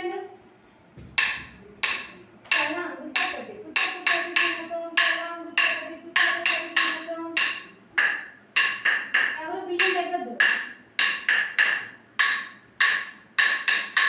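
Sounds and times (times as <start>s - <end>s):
stick beating wooden block: 1.0s - 14.0s.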